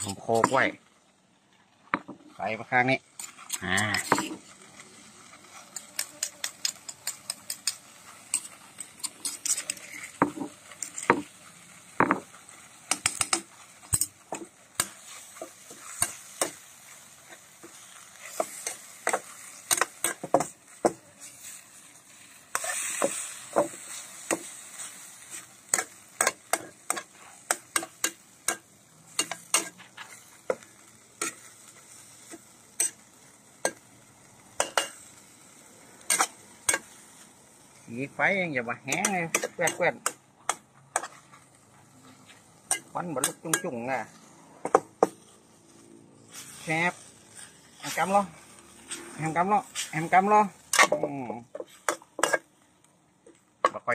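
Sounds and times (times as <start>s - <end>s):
steady sizzle: 0.0s - 53.9s
metal spatula scraping a wok: 3.1s - 35.4s, 36.0s - 37.8s, 38.8s - 52.6s.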